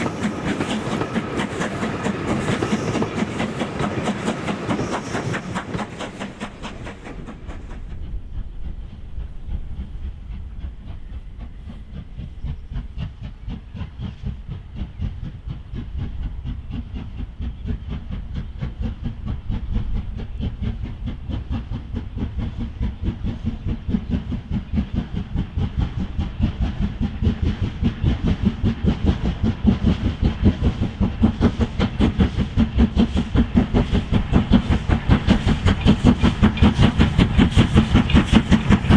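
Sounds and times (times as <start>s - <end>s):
steam hiss: 0.0s - 38.9s
steam locomotive exhaust beats: 0.0s - 38.9s
train rumbling on rails: 0.0s - 38.9s.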